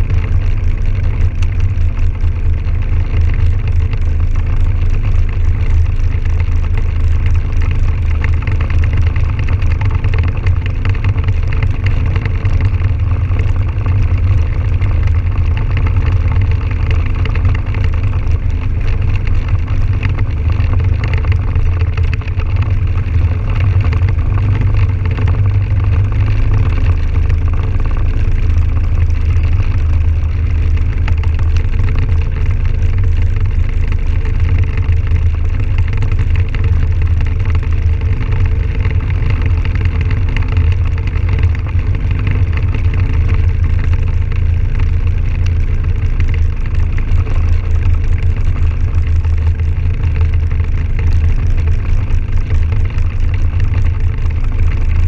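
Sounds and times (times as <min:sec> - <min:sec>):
atv engine running steadily: 0:00.0 - 0:55.0.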